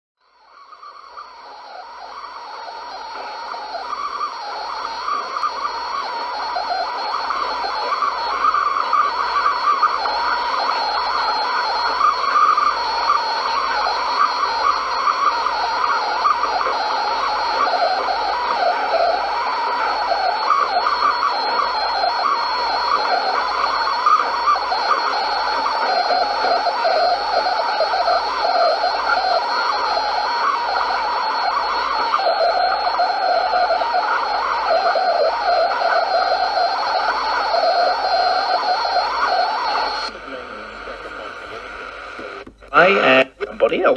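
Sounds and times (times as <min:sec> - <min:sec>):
wavering radio whistles: 0:00.2 - 0:43.9
radio static hiss: 0:00.4 - 0:43.9.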